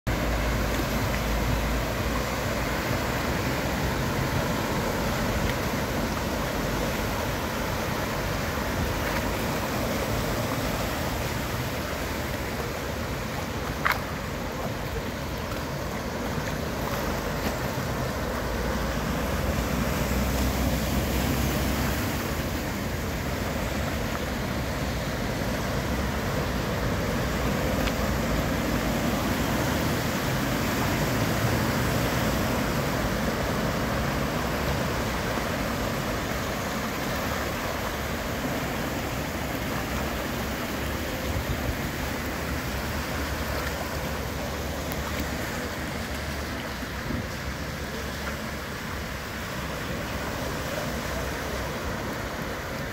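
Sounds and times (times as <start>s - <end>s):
car rumbling and splashing: 0.1s - 52.9s
floodwater washing: 0.1s - 52.9s.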